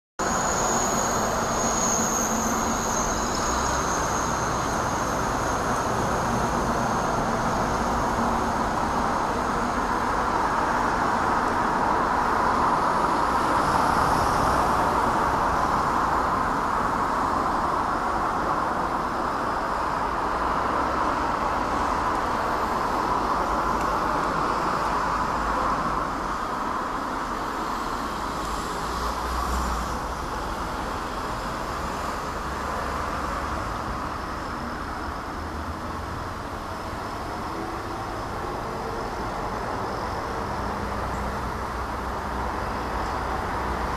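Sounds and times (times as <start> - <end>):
distant jet airliner roar: 0.2 - 43.9.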